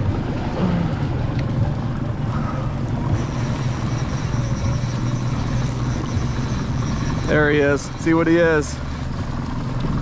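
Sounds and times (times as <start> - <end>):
outboard motors running: 0.0 - 10.0
water rushing in wake: 0.0 - 10.0.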